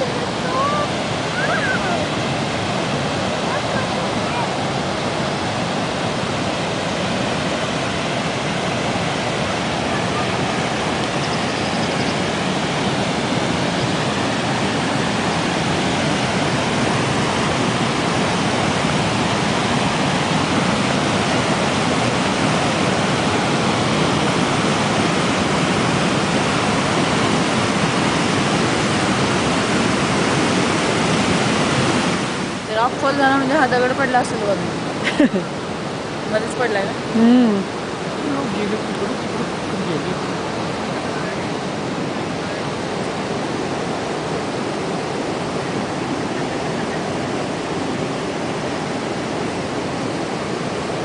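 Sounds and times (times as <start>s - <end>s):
creek rushing over rocks: 0.0s - 51.0s.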